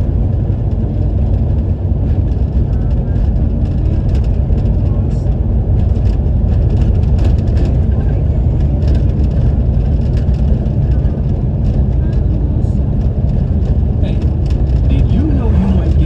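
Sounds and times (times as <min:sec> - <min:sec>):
car engine and tyres rumbling: 0:00.0 - 0:16.0
light clicks and rattles: 0:00.7 - 0:16.0.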